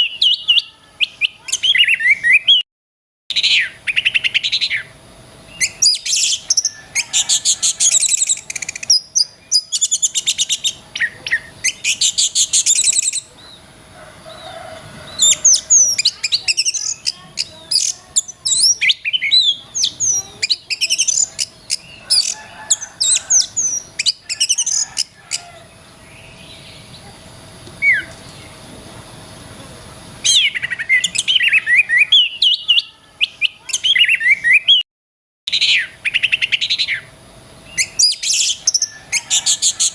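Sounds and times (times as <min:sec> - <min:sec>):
bird singing trills and whistles: 0:00.0 - 0:02.6, 0:03.3 - 0:13.6, 0:15.1 - 0:27.0, 0:27.8 - 0:28.6, 0:30.2 - 0:34.8, 0:35.5 - 0:39.9
faint steady hum: 0:03.3 - 0:34.8, 0:35.5 - 0:39.9.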